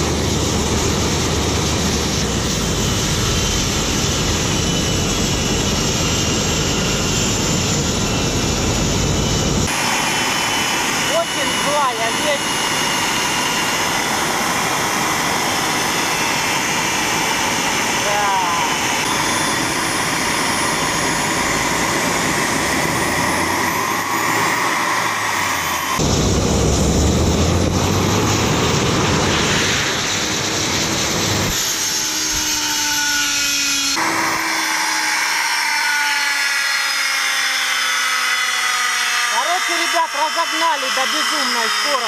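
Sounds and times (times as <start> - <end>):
turbine engine roar and whine: 0.0 - 42.0.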